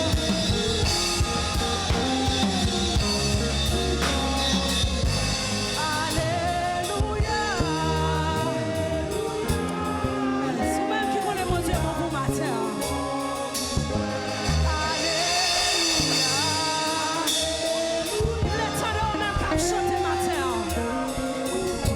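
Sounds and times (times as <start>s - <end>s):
drums: 0.0s - 21.9s
singing voices: 0.0s - 21.9s
sustained bass notes: 0.0s - 21.9s
worship band playing: 0.0s - 21.9s.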